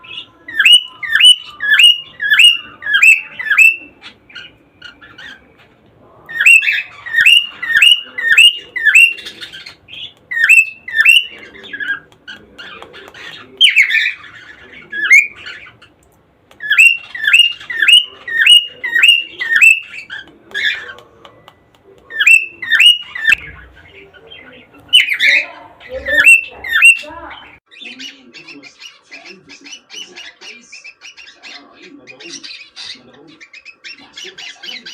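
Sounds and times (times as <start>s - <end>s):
cockatiels calling: 0.0s - 34.9s.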